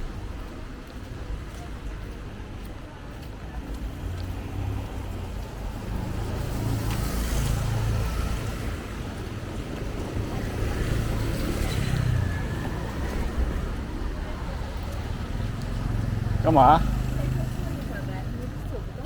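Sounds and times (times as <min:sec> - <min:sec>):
passing vehicles rumbling: 0:03.4 - 0:19.0.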